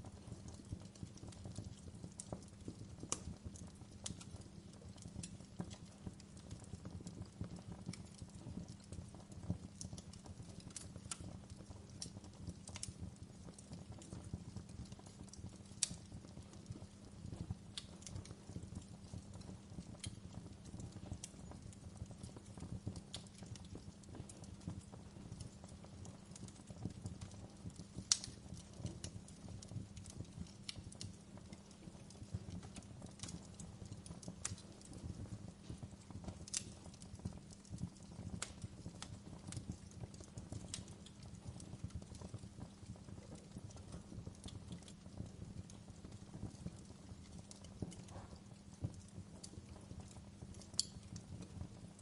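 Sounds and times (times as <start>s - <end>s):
fire crackling and popping: 0.0s - 52.0s.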